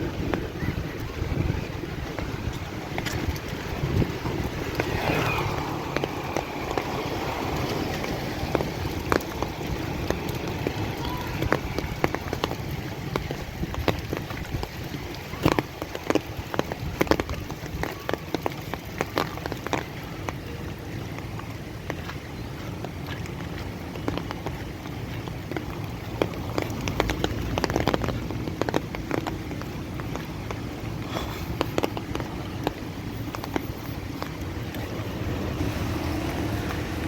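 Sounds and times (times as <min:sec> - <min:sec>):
rain falling: 0:00.0 - 0:37.0
raindrops tapping close by: 0:00.0 - 0:37.0.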